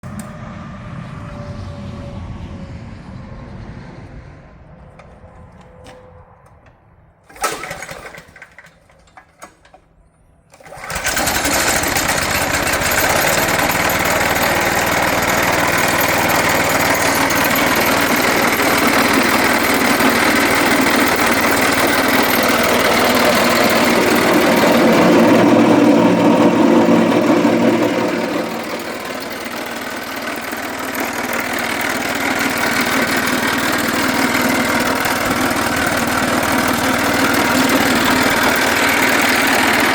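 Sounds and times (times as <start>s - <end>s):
wood chipper engine running: 4.8s - 39.9s.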